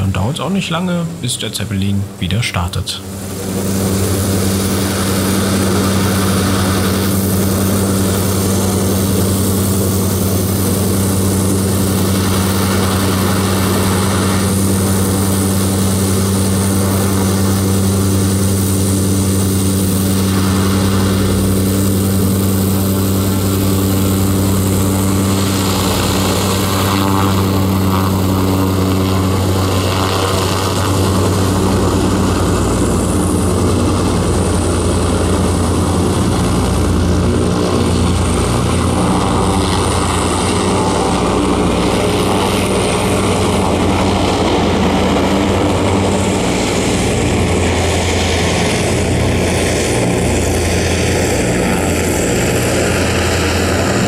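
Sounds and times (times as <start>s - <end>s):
airship engines droning: 0.0s - 54.0s.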